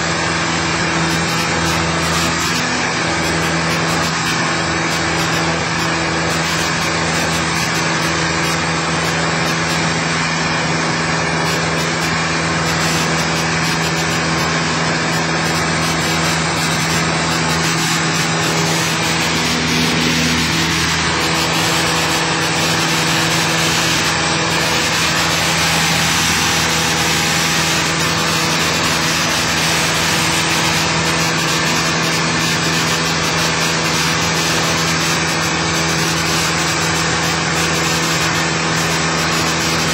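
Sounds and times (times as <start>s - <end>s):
rush of air: 0.0s - 39.8s
propeller plane engine droning: 0.0s - 39.9s.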